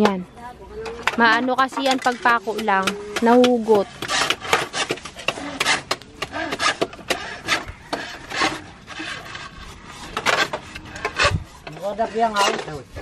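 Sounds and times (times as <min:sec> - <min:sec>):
hand tool rasping wood: 0:00.8 - 0:13.0.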